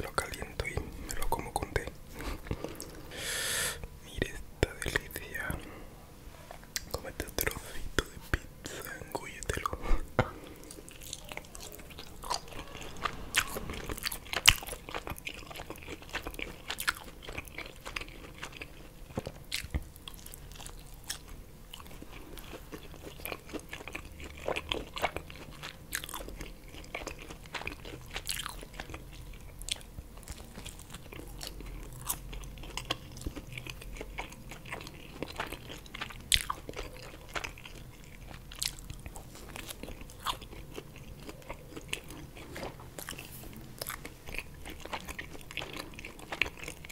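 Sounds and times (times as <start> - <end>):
chewing with wet mouth clicks: 6.6 - 46.9.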